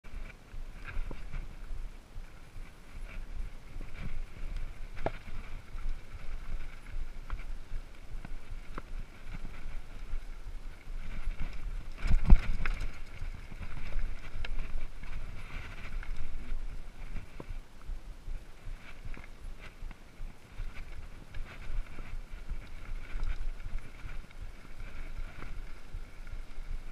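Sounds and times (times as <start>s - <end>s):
wind noise on microphone: 0.0s - 26.9s
mountain bike rattling over rocks: 0.1s - 17.7s, 18.6s - 26.9s.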